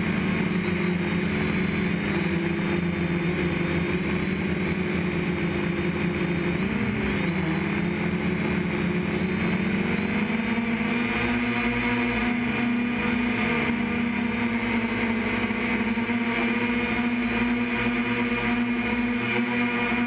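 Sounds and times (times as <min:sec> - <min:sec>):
drone motors and propellers: 0:00.0 - 0:20.0.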